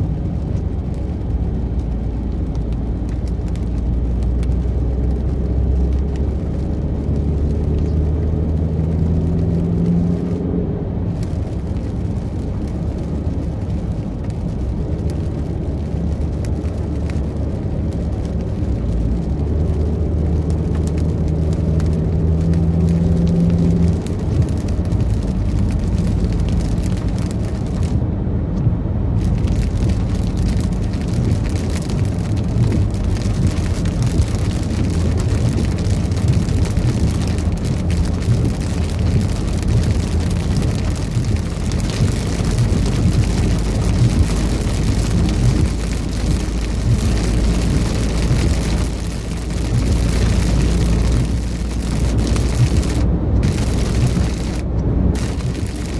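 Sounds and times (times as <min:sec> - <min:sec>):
car interior road rumble: 0:00.0 - 0:55.9
engine hum: 0:00.0 - 0:55.9.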